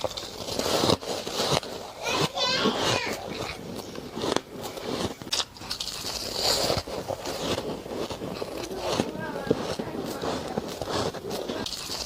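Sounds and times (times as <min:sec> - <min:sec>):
chewing ice crunches: 0:00.0 - 0:12.0.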